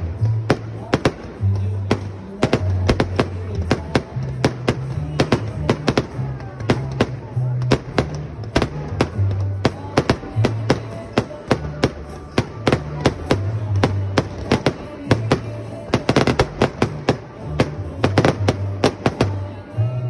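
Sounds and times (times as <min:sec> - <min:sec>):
music with low bass: 0:00.0 - 0:20.0
fireworks bangs: 0:00.2 - 0:19.5.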